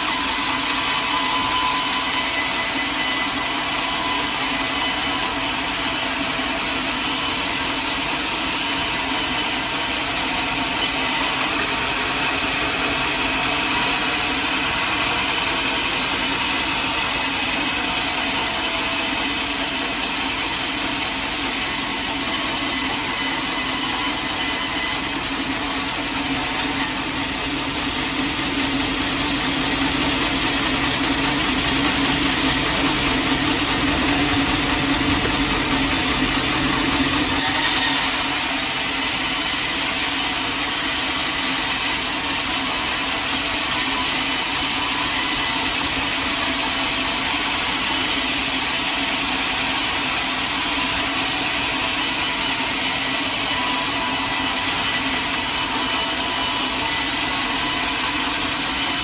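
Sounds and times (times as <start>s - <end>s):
sawmill blade sawing log: 0.0s - 59.0s.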